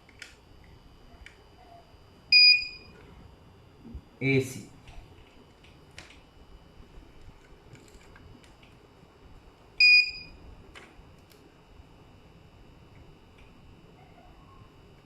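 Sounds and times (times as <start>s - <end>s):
faint steady high whine: 0.0s - 15.0s.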